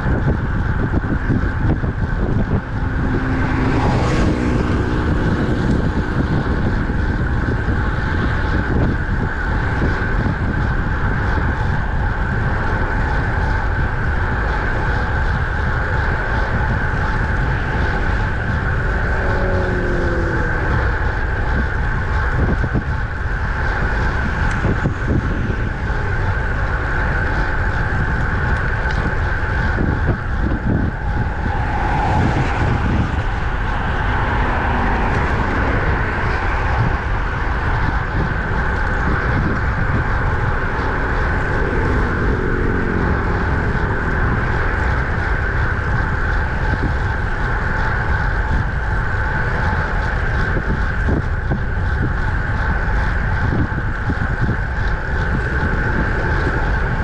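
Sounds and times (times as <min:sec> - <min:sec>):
motor vehicle passing: 0:00.0 - 0:13.8, 0:15.9 - 0:50.0
wind rush and road noise: 0:00.0 - 0:57.0.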